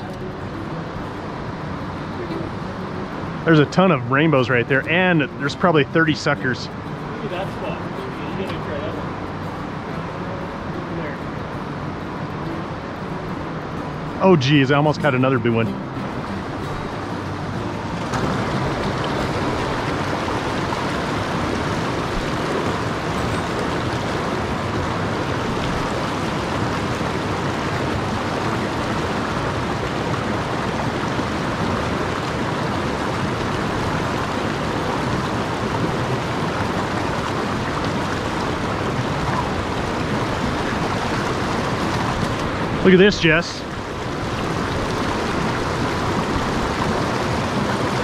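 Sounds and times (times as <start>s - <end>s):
stream rushing over boulders: 0.0s - 48.0s.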